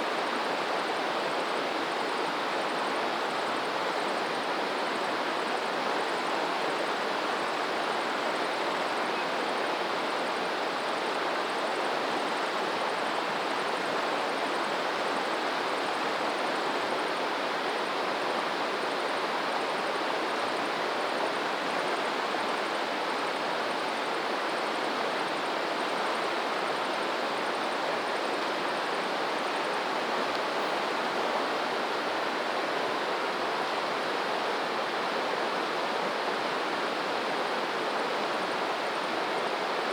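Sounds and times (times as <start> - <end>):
stream water rushing: 0.1 - 39.9.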